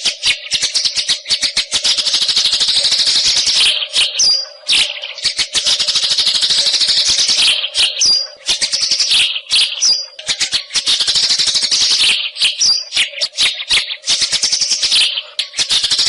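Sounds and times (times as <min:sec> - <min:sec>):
bird singing trills: 0:00.0 - 0:16.0.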